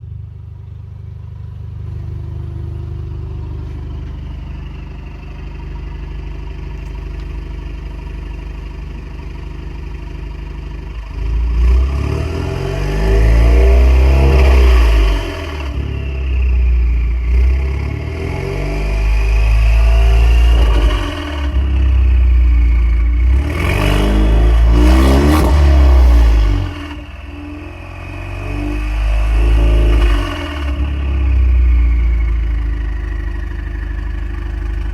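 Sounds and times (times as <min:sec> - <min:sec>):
car engine revving: 0:06.8 - 0:34.9.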